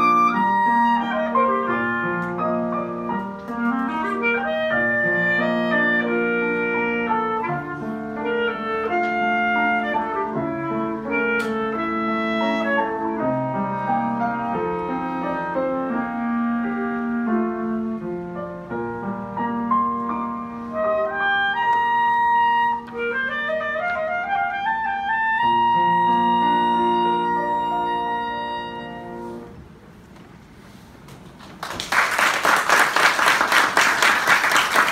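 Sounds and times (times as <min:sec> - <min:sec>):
clarinet melody: 0:00.0 - 0:29.7
upright piano accompaniment: 0:00.0 - 0:30.1.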